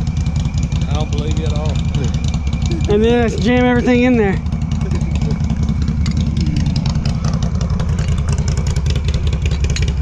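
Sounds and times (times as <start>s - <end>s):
atv engine idling: 0.0s - 10.0s.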